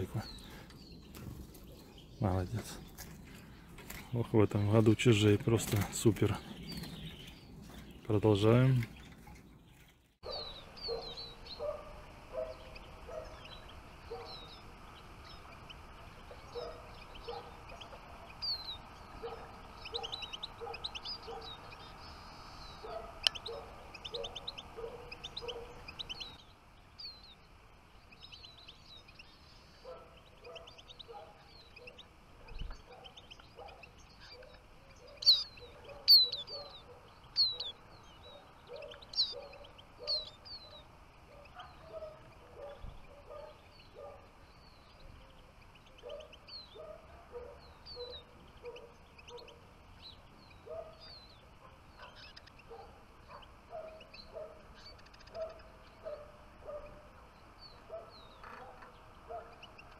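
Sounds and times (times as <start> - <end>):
finches chirping: 0.0 - 59.9.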